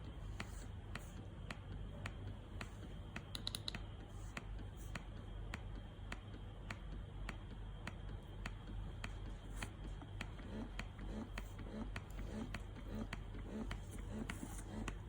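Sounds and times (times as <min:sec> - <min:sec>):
breast pump whine and hum: 0:00.0 - 0:15.0.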